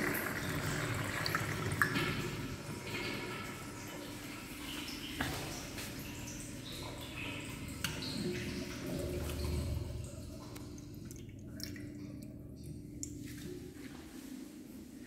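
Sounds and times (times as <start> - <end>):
urinal flushing: 0.0 - 15.0
water trickling and dripping: 0.0 - 15.0.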